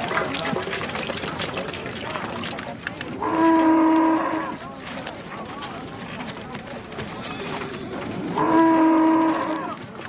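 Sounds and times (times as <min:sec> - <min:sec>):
overlapping voices and calls: 0:00.0 - 0:10.0.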